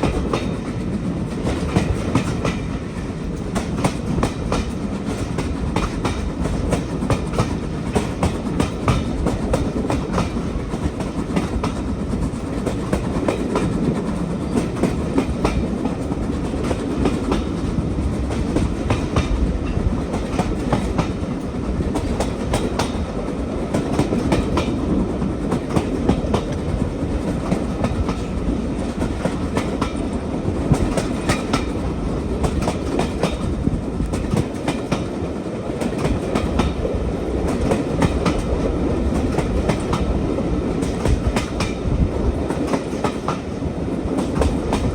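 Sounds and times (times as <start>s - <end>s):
train low rumble: 0.0s - 44.9s
wheels clacking over rail joints: 0.0s - 44.9s.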